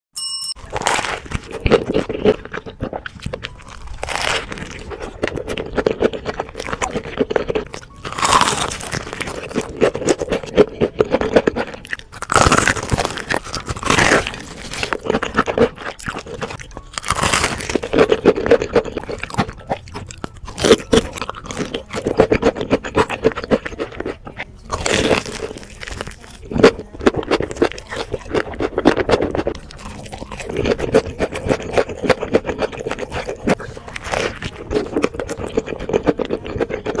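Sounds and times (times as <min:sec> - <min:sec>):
crunchy chewing: 0:00.6 - 0:37.0.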